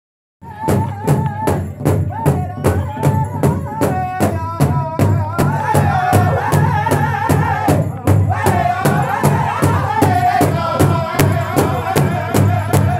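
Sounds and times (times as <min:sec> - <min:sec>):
high-pitched group singing: 0:00.4 - 0:12.9
large hide drum beating: 0:00.4 - 0:12.9.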